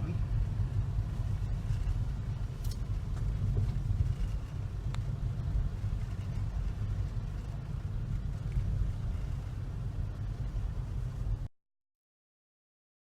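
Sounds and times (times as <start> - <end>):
low rumble: 0.0 - 11.5.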